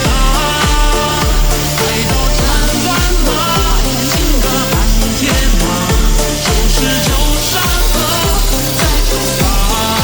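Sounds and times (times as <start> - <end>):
upbeat electronic pop music: 0.0 - 10.0.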